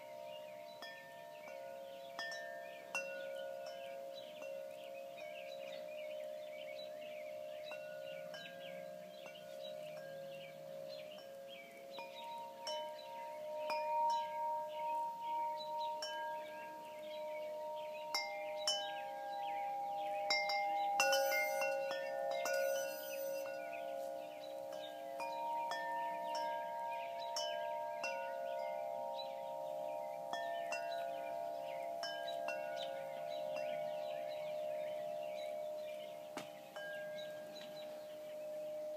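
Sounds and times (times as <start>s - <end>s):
wind chimes ringing: 0.0s - 38.9s.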